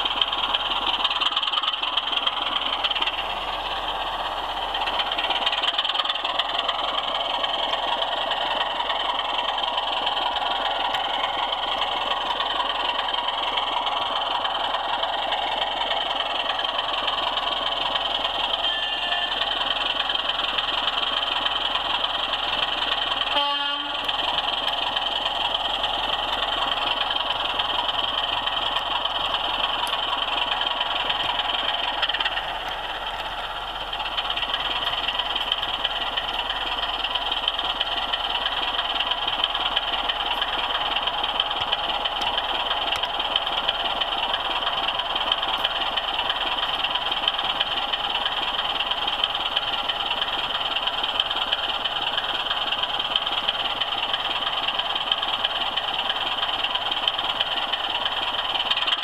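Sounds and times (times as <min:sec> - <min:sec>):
model train whirring on rails: 0:00.0 - 0:59.0.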